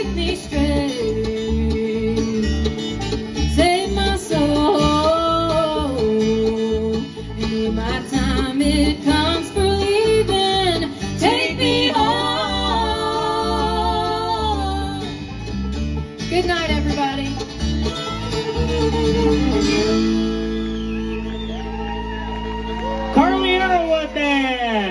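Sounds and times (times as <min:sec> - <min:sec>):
bluegrass band playing: 0:00.0 - 0:24.3.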